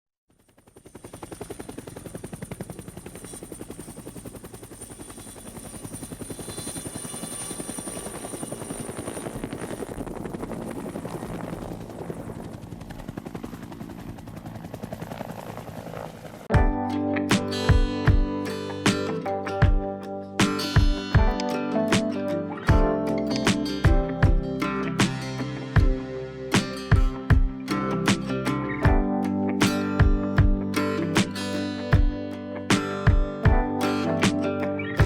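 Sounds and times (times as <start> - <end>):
helicopter rotor blades chopping: 0.4 - 22.1, 22.7 - 31.4, 32.0 - 34.4.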